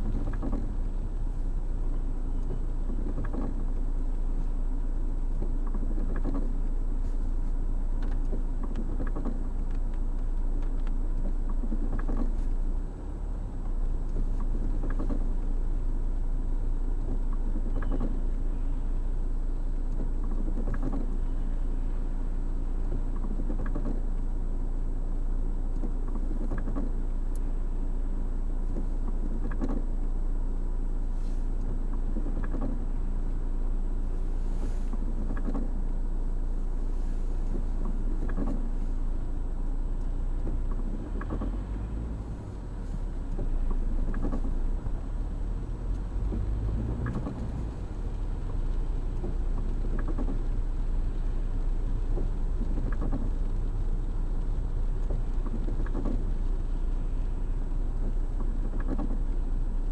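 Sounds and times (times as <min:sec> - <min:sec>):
windscreen wipers stroking: 0:00.0 - 0:24.4, 0:25.8 - 0:27.8, 0:28.6 - 0:59.9
car engine hum: 0:00.0 - 0:59.9.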